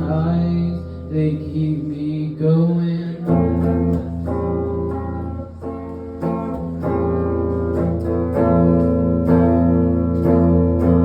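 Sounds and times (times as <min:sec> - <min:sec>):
guitar playing sustained chords: 0:00.0 - 0:11.0.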